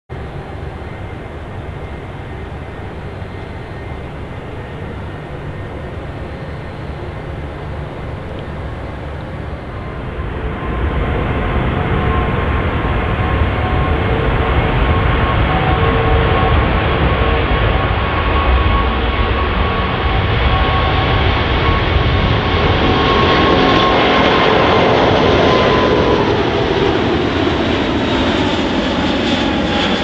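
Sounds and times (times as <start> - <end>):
jet engines deep rumble: 0.1 - 30.0
steady engine tone: 0.1 - 30.0.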